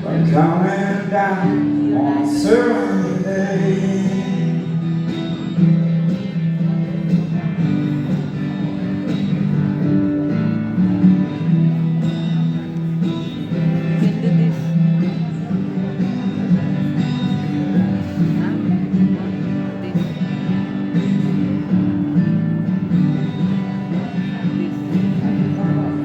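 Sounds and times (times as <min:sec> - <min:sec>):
strummed guitar chords: 0:00.0 - 0:26.0.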